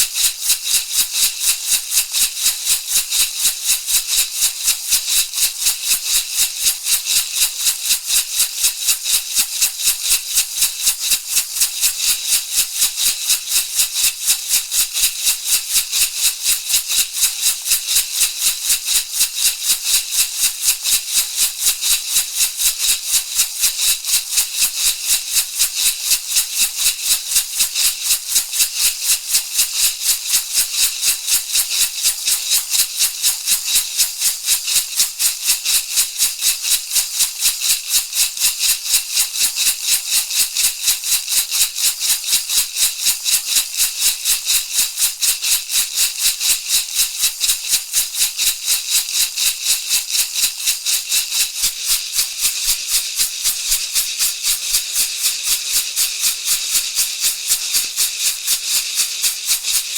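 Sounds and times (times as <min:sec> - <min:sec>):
rattle shaken rhythmically: 0:00.0 - 0:59.9.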